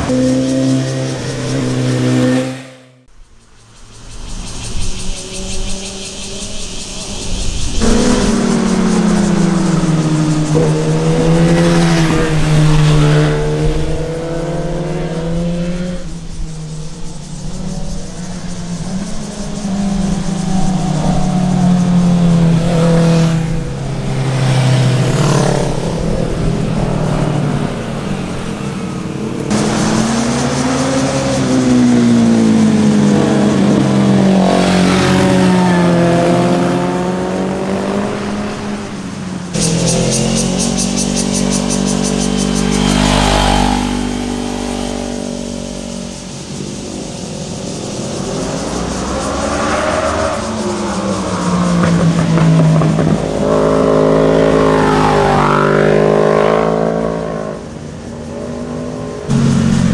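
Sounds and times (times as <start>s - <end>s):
motorcycle engines revving past: 0.0s - 3.1s, 3.7s - 59.9s.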